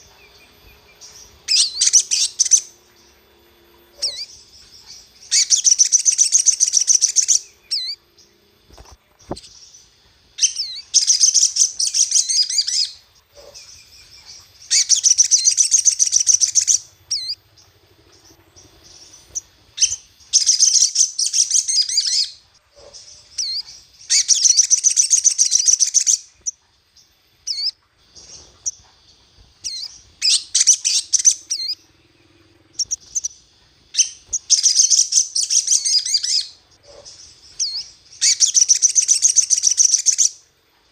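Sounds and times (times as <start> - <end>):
bird chattering chirps: 0.0 - 3.3, 3.9 - 8.0, 9.1 - 26.6, 27.4 - 40.4.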